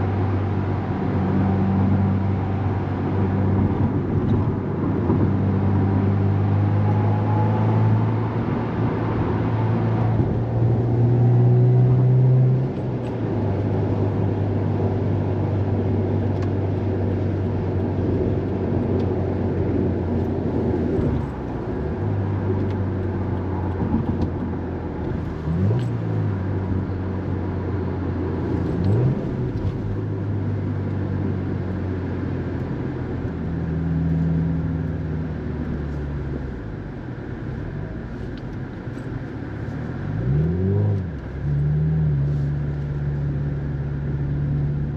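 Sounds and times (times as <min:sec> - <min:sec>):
car engine drone from inside: 0:00.0 - 0:44.9.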